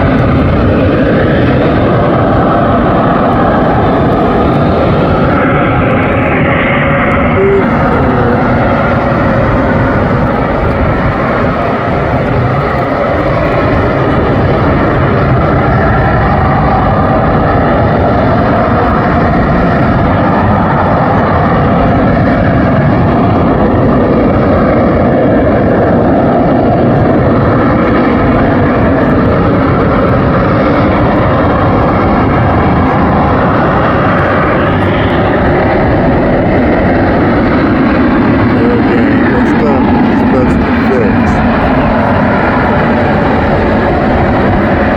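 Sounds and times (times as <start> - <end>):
jet engine roaring: 0.0 - 44.9.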